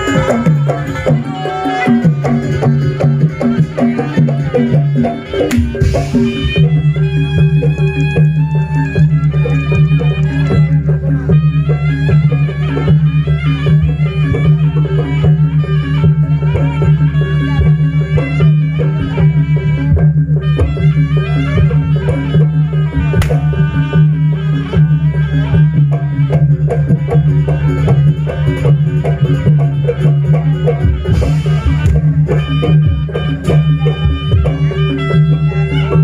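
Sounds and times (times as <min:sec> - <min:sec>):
fast hand drums: 0:00.0 - 0:36.0
pitched melody: 0:00.0 - 0:36.0.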